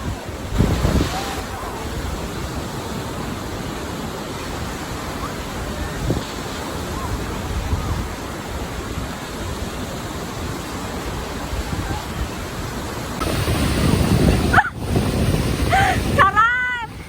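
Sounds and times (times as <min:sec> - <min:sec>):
lake waves washing: 0:00.0 - 0:17.0
wind buffeting microphone: 0:00.0 - 0:17.0.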